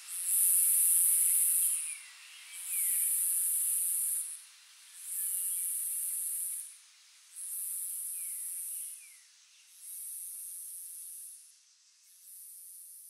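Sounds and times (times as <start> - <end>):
cicadas buzzing: 0.1 - 13.0.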